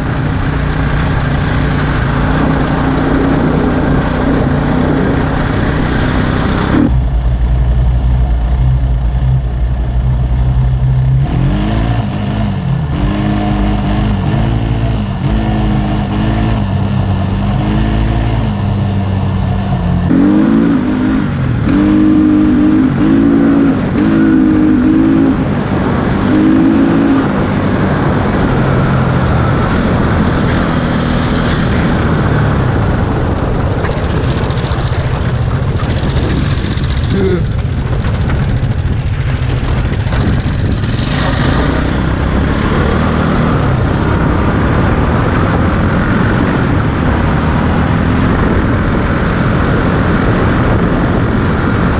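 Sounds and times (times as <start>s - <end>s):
mini bike engine revving: 0.0s - 31.5s, 32.8s - 51.9s
kart engine running: 0.0s - 51.9s
wind and road noise: 0.0s - 51.9s.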